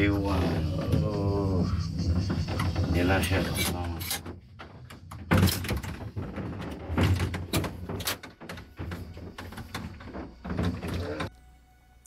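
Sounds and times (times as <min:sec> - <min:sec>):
folding glass doors rattling: 0:00.0 - 0:11.3.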